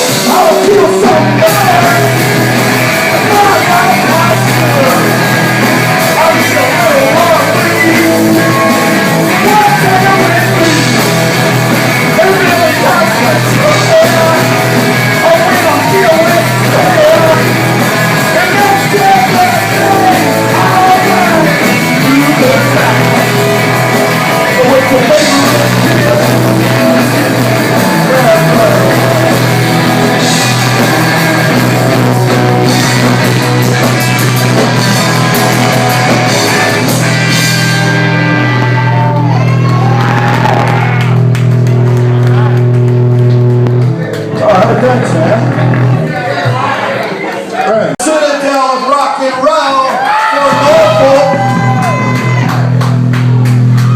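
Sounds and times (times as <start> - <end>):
punk rock band playing live: 0.0 - 46.9, 50.0 - 53.9.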